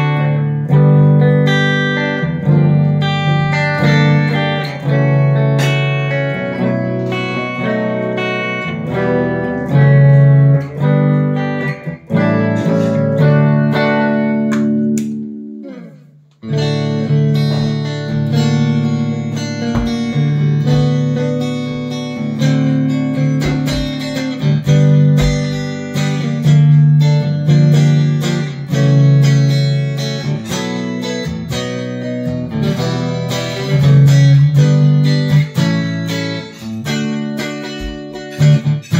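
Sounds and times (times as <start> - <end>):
electric guitar playing: 0.0 - 38.9.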